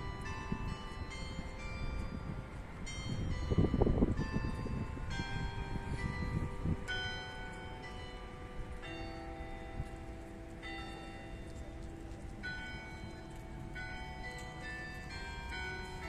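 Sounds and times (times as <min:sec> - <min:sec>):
bells ringing: 0:00.0 - 0:16.0.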